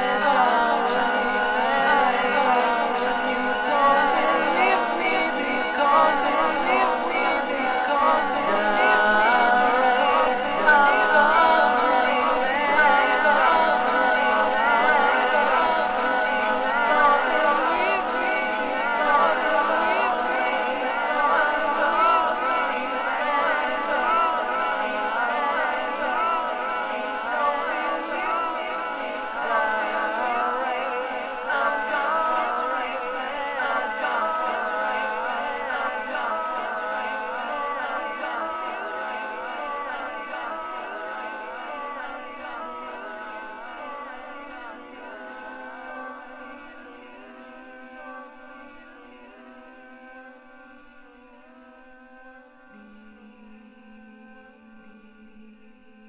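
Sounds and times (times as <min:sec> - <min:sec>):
a cappella choir singing: 0:00.0 - 0:56.0.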